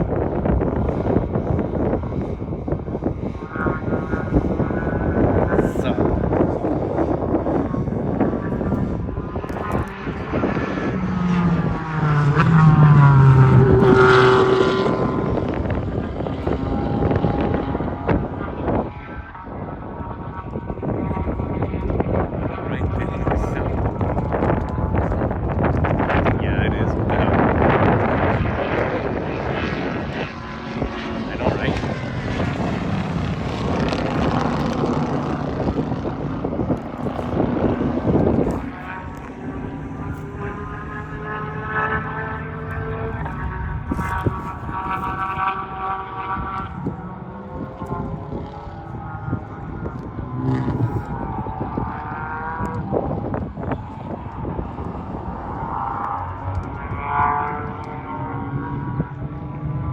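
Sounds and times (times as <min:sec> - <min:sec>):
race car engine passing by: 0:03.8 - 0:59.9.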